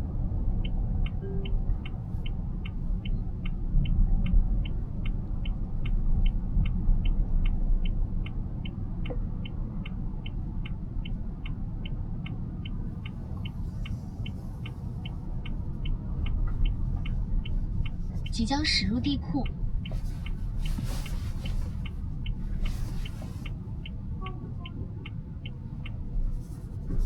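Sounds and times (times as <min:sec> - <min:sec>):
road and cabin rumble: 0:00.0 - 0:27.0
turn signal ticking: 0:00.0 - 0:27.0.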